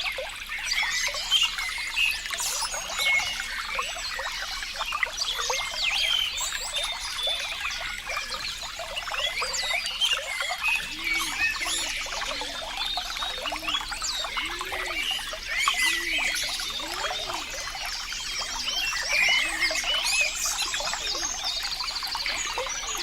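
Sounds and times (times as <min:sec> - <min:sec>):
birds chirping: 0:00.0 - 0:23.0
stream trickling and bubbling: 0:00.0 - 0:23.0.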